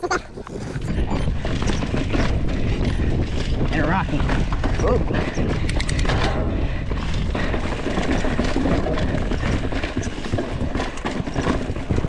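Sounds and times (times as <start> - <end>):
bike knocking and rattling: 0.1 - 12.0.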